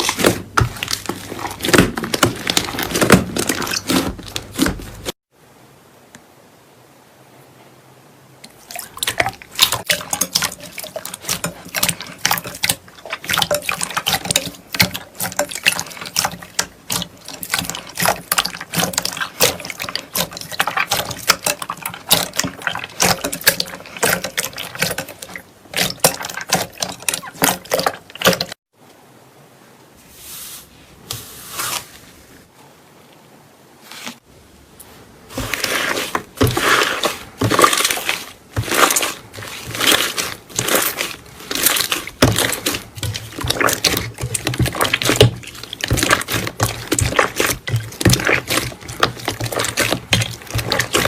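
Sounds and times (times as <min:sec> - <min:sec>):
slime squishing by hand: 0:00.0 - 0:05.2, 0:08.5 - 0:28.6, 0:35.3 - 0:51.0.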